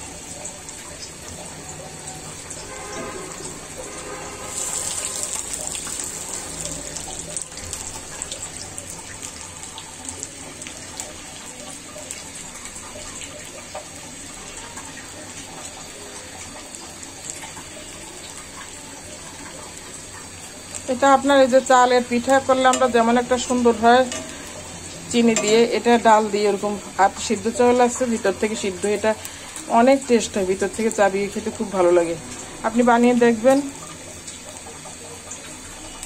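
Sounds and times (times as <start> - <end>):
fritters deep-frying in hot oil: 0.0 - 36.0.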